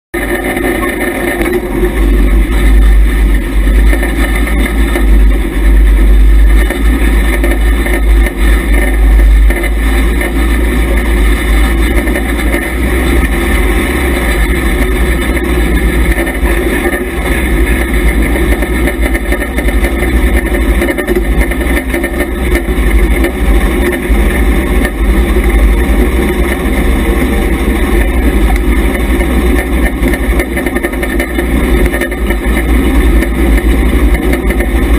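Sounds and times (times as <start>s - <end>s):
heavy low rumble: 0.1s - 34.9s
race car engine running: 0.1s - 34.9s.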